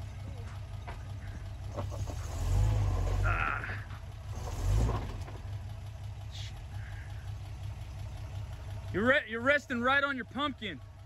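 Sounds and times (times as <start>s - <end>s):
off-road vehicle engine rumbling: 0.0s - 11.0s.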